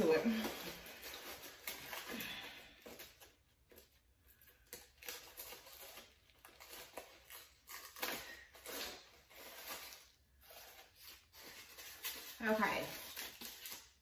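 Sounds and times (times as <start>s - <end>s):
packing material rustling: 0.0s - 14.0s.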